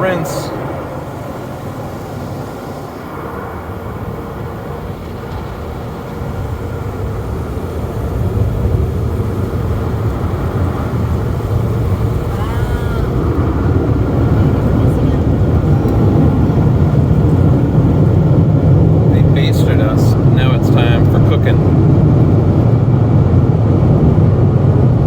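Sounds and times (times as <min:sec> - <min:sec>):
water spraying on car: 0:00.0 - 0:25.0.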